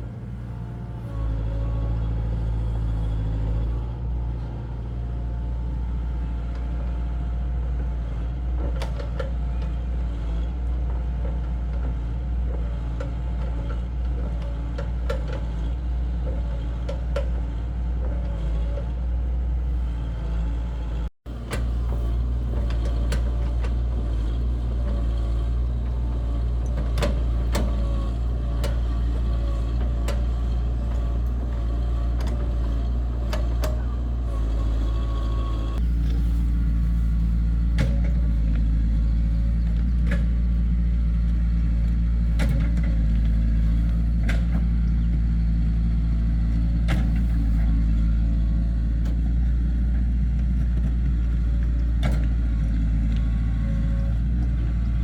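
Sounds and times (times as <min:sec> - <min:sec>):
diesel engine deep rumble: 0:00.0 - 0:55.0.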